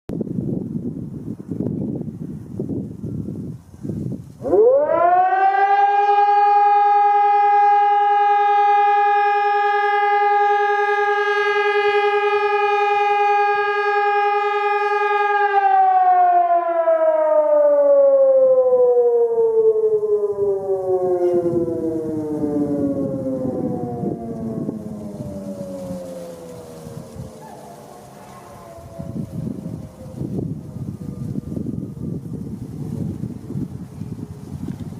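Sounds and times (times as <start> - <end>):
civil defence siren wailing: 1.8 - 34.9.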